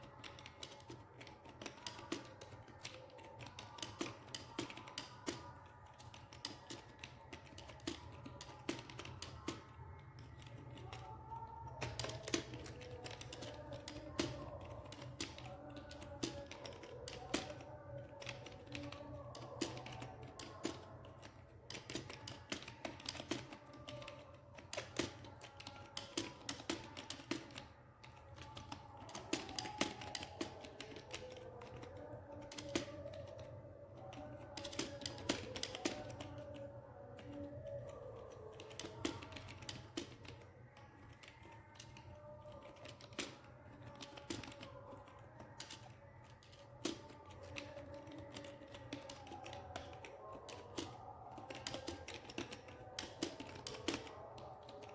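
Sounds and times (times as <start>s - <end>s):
faint music: 0.0s - 54.9s
keyboard typing: 0.0s - 54.9s.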